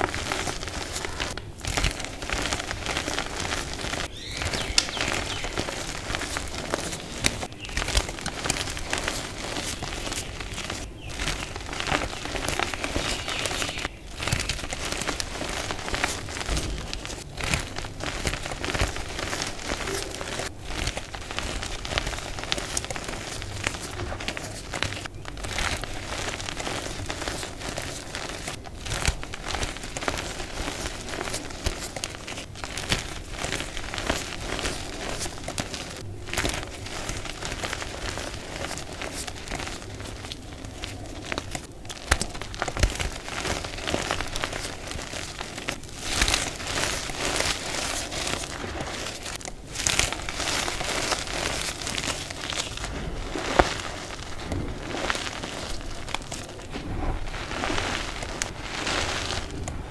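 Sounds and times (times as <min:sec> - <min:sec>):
hands crushing chalk: 0:00.0 - 0:59.9.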